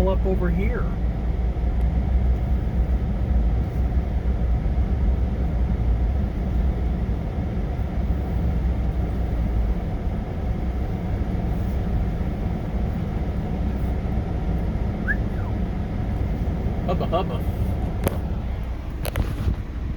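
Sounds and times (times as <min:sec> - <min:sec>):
truck engine rumbling: 0:00.0 - 0:19.9.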